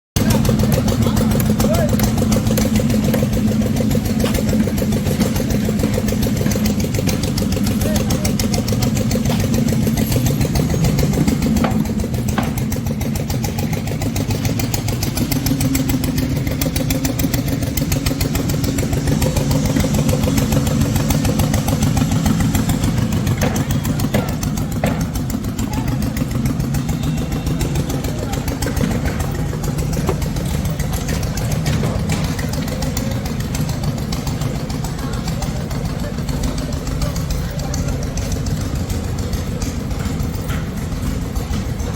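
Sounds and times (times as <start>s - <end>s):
engine running steadily: 0.2s - 41.9s.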